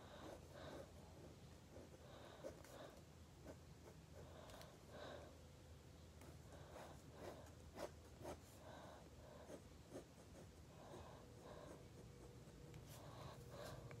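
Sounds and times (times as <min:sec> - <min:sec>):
pen scratching on paper: 0:00.0 - 0:04.8, 0:06.2 - 0:08.6, 0:09.4 - 0:14.0.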